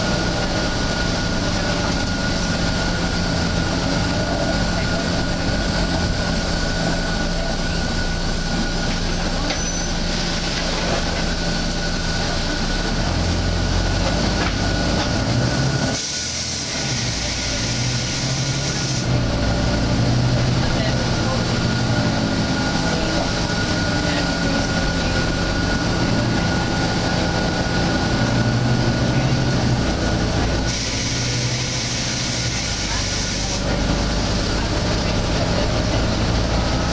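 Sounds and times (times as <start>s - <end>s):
bus diesel engine: 0.0s - 36.9s
road noise: 0.0s - 36.9s.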